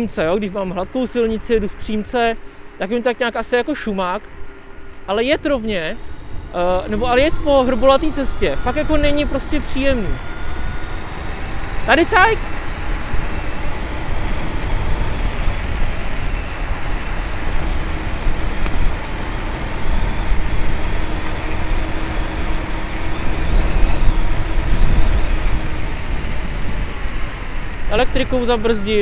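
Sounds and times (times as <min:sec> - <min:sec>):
faint steady hum: 0:00.0 - 0:29.0
road noise: 0:00.0 - 0:29.0
wind rushing over microphone: 0:03.8 - 0:29.0.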